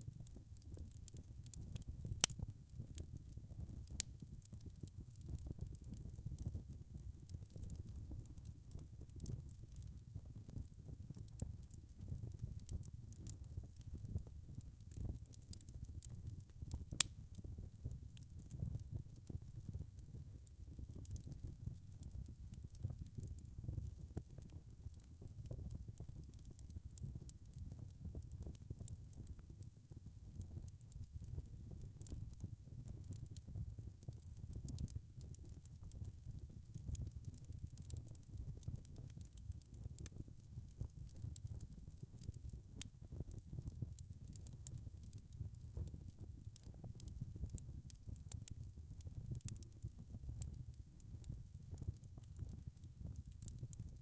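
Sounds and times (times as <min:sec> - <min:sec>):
low rumble of flames: 0:00.0 - 0:54.0
wood fire popping: 0:00.2 - 0:54.0.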